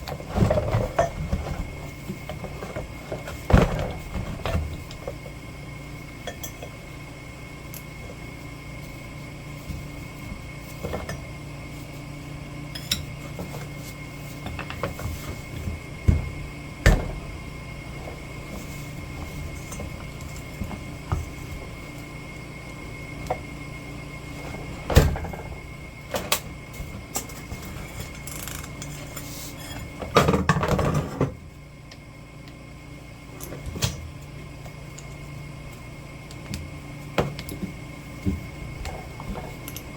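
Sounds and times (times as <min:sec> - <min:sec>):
steady shop hum: 0:00.0 - 0:39.9.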